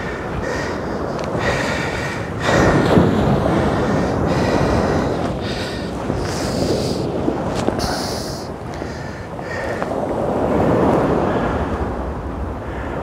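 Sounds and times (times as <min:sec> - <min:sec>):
waves breaking on rocks: 0:00.0 - 0:12.6
wind noise on microphone: 0:00.0 - 0:13.0.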